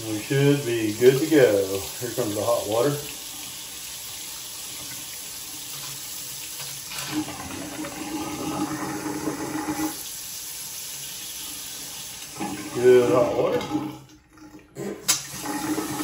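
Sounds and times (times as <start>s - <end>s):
water running into sink: 0.0s - 16.0s.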